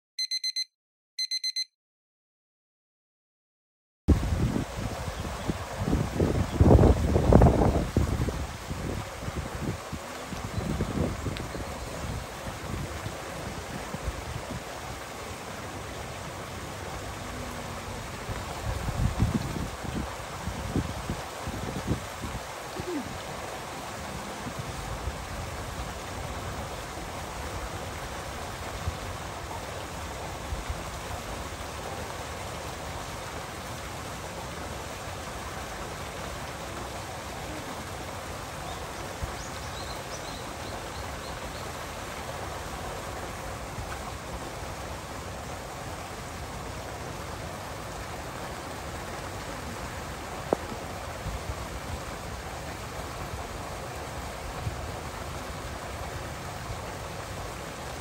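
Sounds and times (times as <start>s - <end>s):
waterfall splashing into pool: 4.1s - 58.0s.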